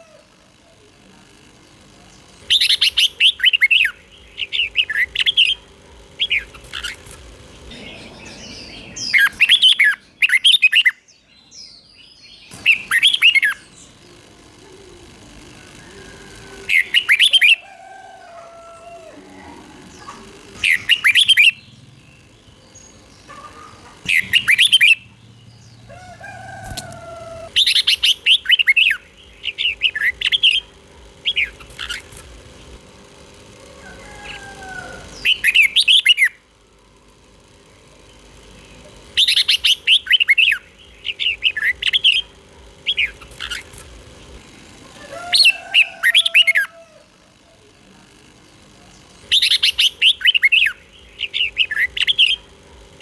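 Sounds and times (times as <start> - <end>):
faint steady hum: 0.0 - 53.0
bird song warbling: 2.1 - 14.7, 15.8 - 32.8, 33.8 - 36.5, 37.9 - 44.4, 48.9 - 53.0.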